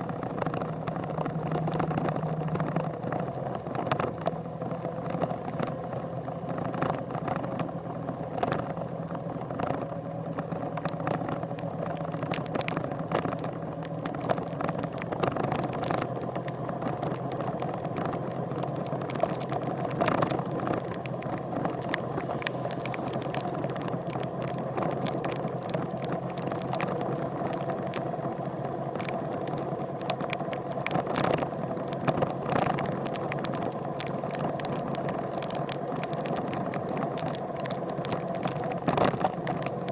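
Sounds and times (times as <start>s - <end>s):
sharp clicks and rattles: 0.0s - 5.7s, 9.4s - 39.9s.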